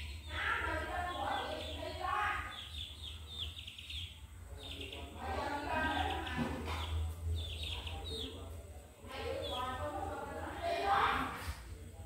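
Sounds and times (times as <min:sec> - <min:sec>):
chicks peeping: 0:00.0 - 0:11.6.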